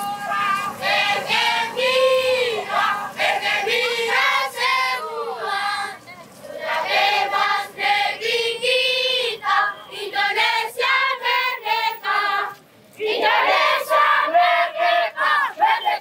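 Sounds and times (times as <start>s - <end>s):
children chanting in unison: 0.3s - 16.0s.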